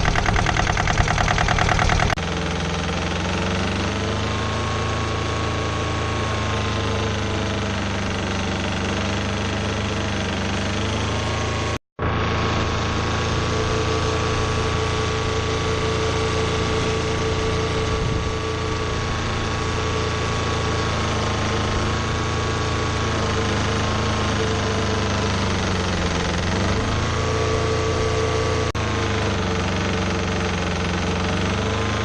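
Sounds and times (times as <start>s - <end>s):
large engine running: 0.0s - 32.0s.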